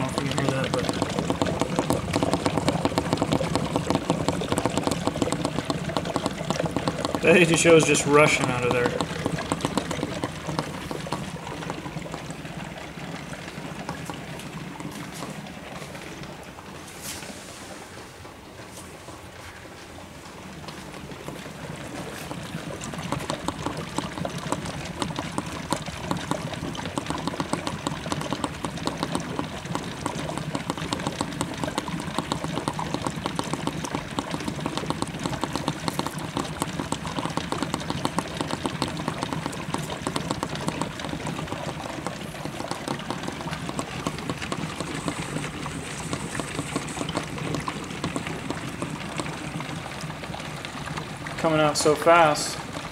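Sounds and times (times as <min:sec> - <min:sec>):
gas bubbling through water: 0:00.0 - 0:52.9.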